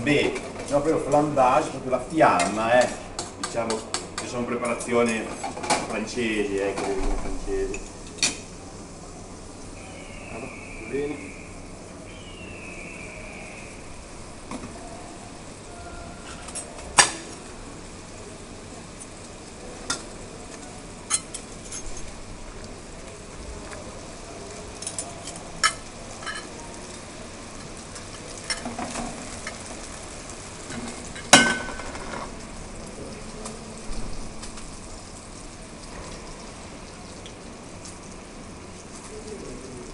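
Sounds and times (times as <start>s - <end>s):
sauce sizzling in pan: 0.0s - 39.9s.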